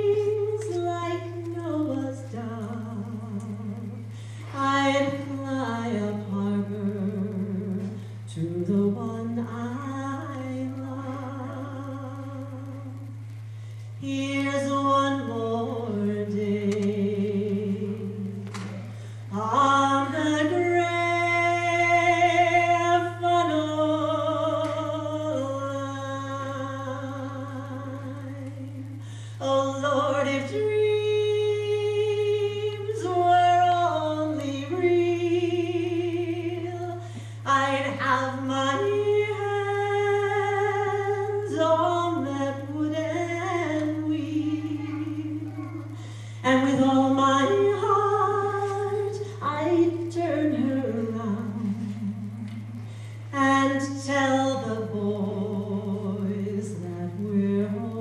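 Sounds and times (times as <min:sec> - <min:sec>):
steady low hum: 0:00.0 - 0:58.0
woman singing unaccompanied: 0:00.0 - 0:58.0.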